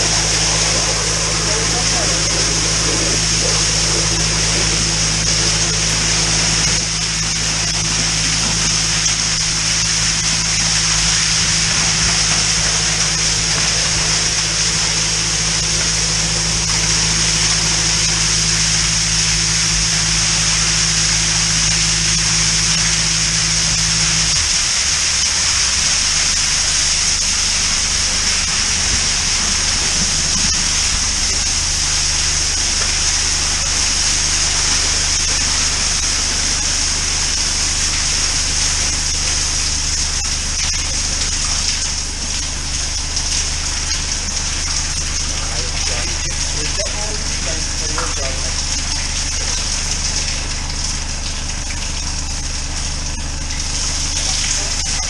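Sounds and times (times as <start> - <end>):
engine hum: 0.0 - 55.0
water jetting hiss: 0.0 - 55.0.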